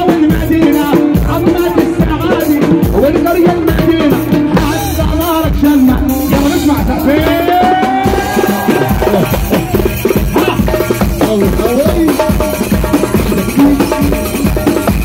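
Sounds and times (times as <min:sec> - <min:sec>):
goblet drum fast beat: 0:00.0 - 0:15.0.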